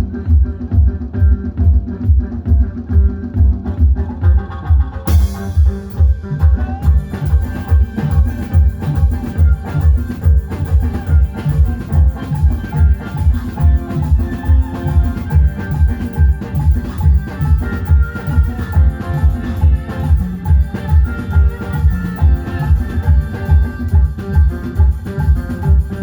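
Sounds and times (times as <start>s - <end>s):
heavy bass drum beat: 0.0s - 26.0s.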